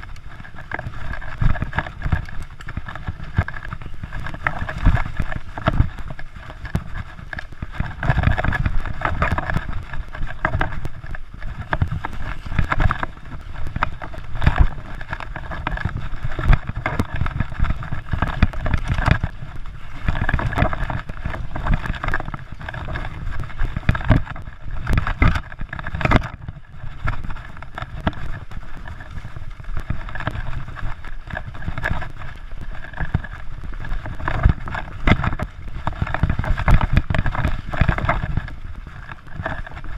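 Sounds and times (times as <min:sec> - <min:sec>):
bike knocks and rattles: 0:00.0 - 0:39.9
wind buffeting microphone: 0:00.0 - 0:39.9.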